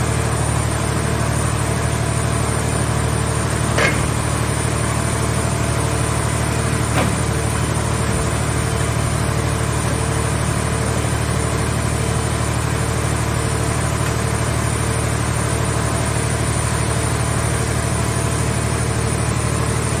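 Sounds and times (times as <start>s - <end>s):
hydraulic power unit droning: 0.0s - 20.0s.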